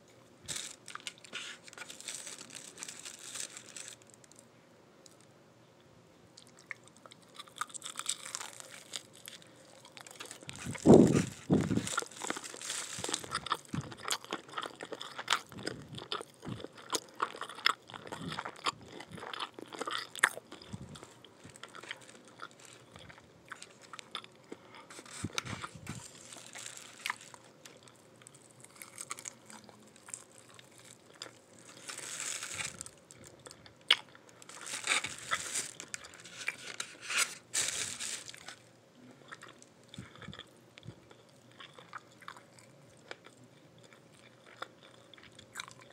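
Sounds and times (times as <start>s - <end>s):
person chewing crispy fried chicken: 0.4s - 4.5s, 6.4s - 45.9s.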